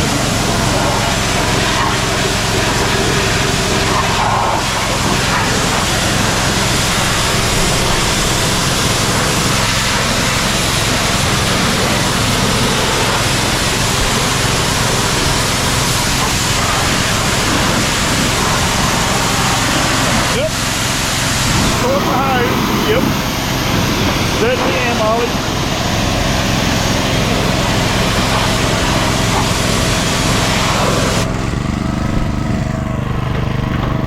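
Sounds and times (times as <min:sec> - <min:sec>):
water jet hissing: 0:00.0 - 0:32.9
pressure washer engine droning: 0:00.0 - 0:34.0.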